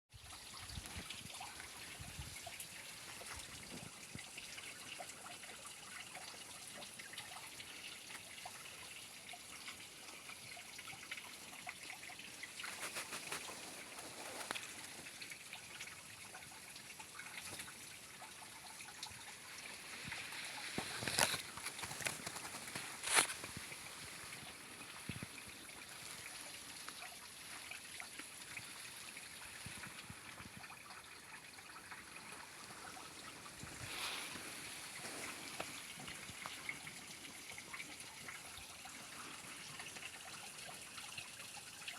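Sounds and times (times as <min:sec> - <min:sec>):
water drips and splashes: 0:00.1 - 0:41.9.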